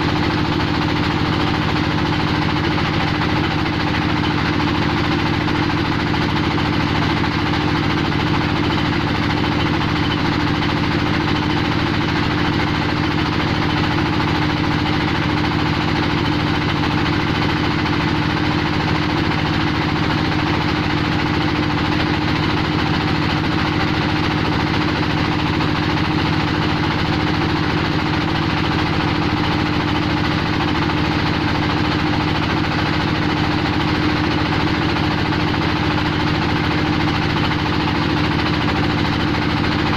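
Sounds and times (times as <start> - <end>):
clay mill mechanical drone: 0.0 - 39.9.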